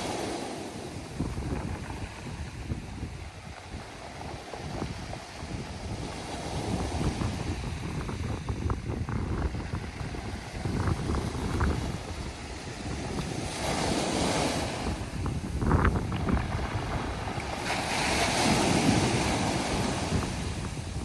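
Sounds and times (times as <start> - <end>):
waves washing over pebbles: 0.0 - 21.0.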